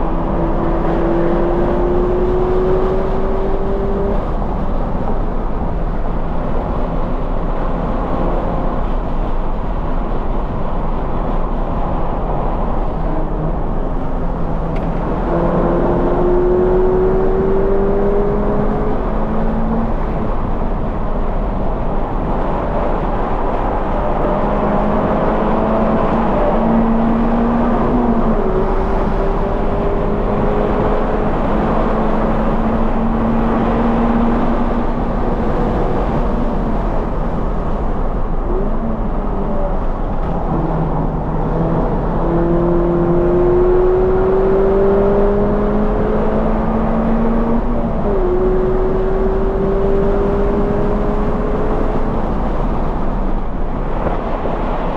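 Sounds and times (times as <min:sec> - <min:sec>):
car engine revving: 0:00.0 - 0:05.1, 0:14.0 - 0:22.7, 0:23.3 - 0:54.8
wind and tyre noise: 0:00.0 - 0:54.9.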